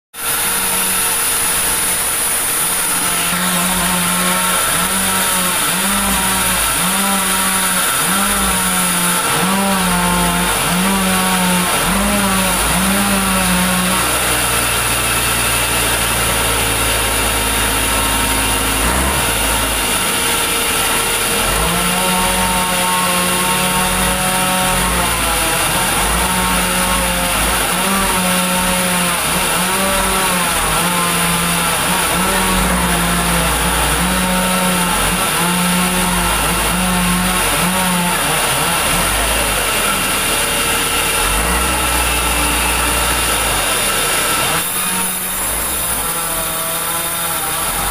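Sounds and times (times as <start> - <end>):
band sawmill cutting log: 0.1 - 47.9.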